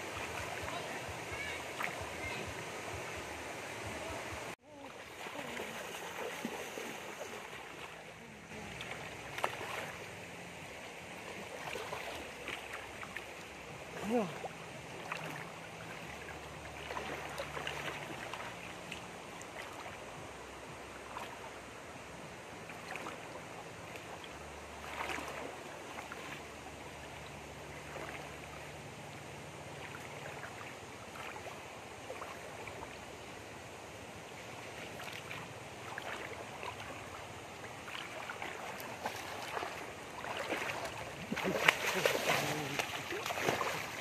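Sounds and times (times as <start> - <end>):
person wading through water: 0.0 - 21.8, 22.4 - 33.3, 34.0 - 44.0
stream rushing over rocks: 0.0 - 44.0.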